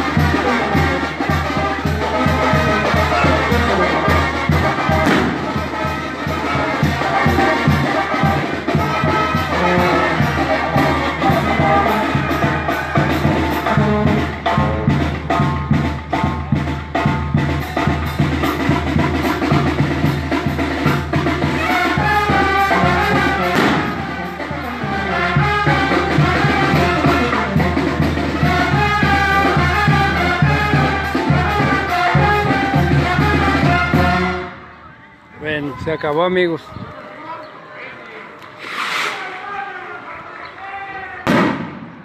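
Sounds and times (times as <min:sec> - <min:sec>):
brass band with sousaphone: 0:00.0 - 0:35.9, 0:41.0 - 0:42.0.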